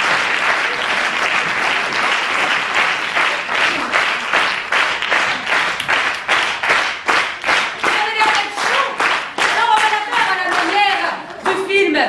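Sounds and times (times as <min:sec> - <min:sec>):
audience applause: 0:00.0 - 0:11.7
rhythmic clapping in unison: 0:00.0 - 0:11.8.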